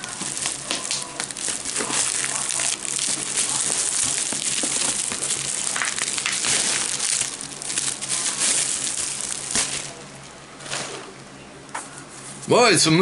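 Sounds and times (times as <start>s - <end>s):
packing material crinkling: 0.0s - 11.1s.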